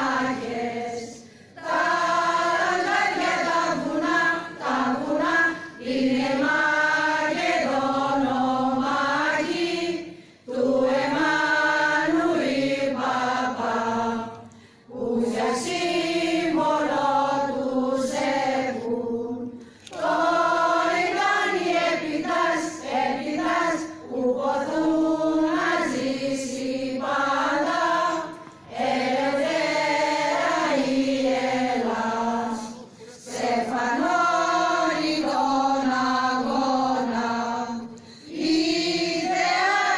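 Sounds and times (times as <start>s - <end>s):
choral singing: 0.0s - 39.9s.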